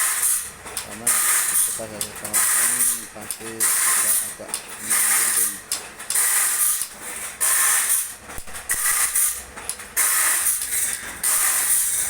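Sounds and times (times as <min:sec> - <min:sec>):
metal grinding rasps: 0:00.0 - 0:12.0.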